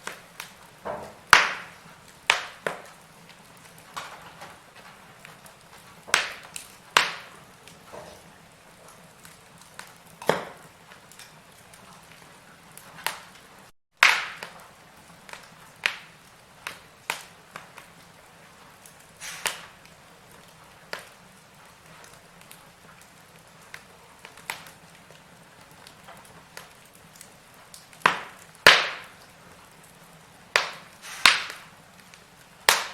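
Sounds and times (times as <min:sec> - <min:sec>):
faint steady hiss: 0:00.0 - 0:32.9
firewood crackling and popping: 0:00.0 - 0:32.9.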